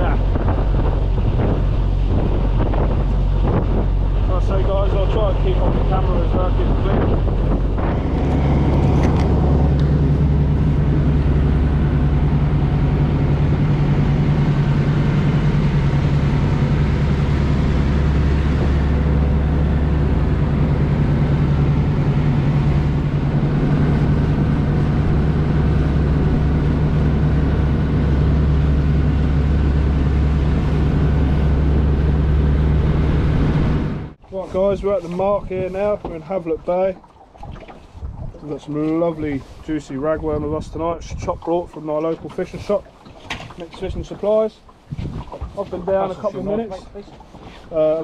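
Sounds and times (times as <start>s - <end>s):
wind noise: 0.0s - 44.2s, 44.8s - 47.0s
boat engine droning: 0.0s - 48.0s
water noise: 0.0s - 48.0s.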